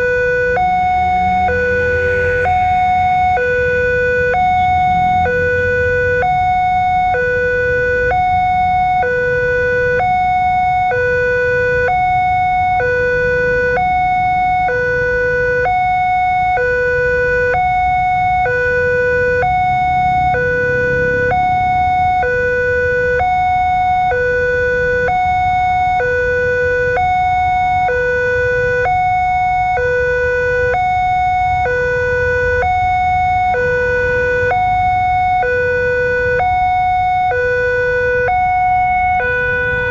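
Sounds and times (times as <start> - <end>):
road traffic idling: 0.0 - 39.9
two-tone crossing alarm: 0.0 - 39.9.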